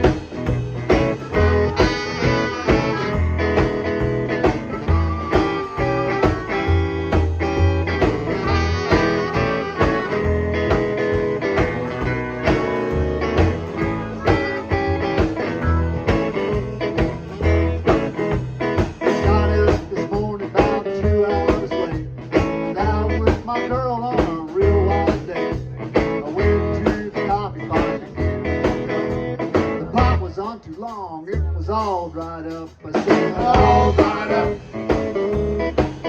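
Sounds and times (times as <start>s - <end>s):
low bass line: 0.0s - 30.4s, 31.3s - 32.4s, 33.2s - 36.0s
guitar: 0.0s - 36.0s
steady drum beat: 0.0s - 36.0s.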